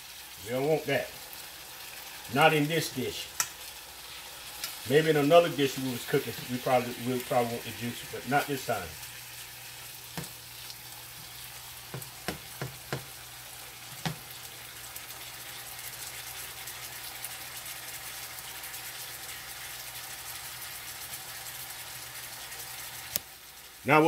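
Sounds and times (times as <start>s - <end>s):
chicken sizzling in a frying pan: 0.0s - 24.0s.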